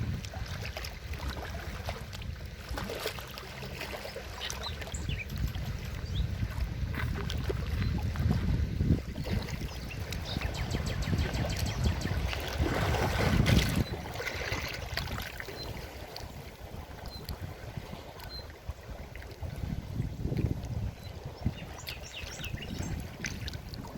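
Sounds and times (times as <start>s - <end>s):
stream running and splashing: 0.0s - 23.9s.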